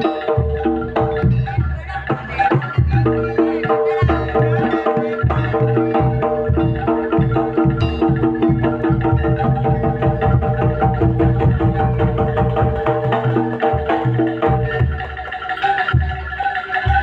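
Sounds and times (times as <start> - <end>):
steady drum beats: 0.0 - 17.0.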